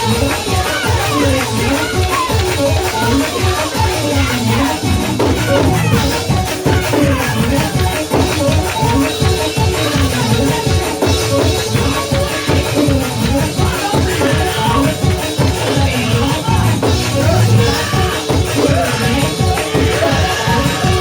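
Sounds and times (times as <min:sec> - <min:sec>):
gospel praise music: 0:00.0 - 0:21.0
rhythmic percussion: 0:00.0 - 0:21.0.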